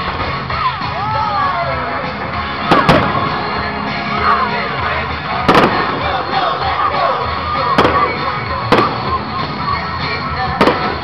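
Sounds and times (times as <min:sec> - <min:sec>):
crowd talking: 0:00.0 - 0:11.0
music playing: 0:00.0 - 0:11.0
fireworks bangs: 0:02.2 - 0:11.0.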